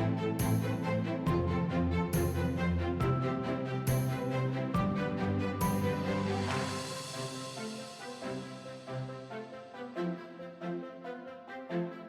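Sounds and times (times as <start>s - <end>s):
melodic instrumental music: 0.0s - 12.0s.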